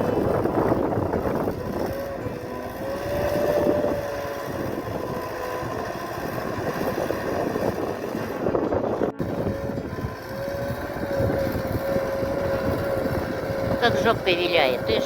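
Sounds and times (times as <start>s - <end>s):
engine running with whine: 0.0s - 15.0s.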